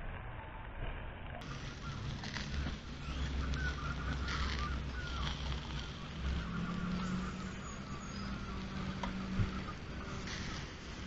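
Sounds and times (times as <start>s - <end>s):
low engine hum: 0.0s - 11.0s
low outdoor rumble: 0.0s - 11.0s.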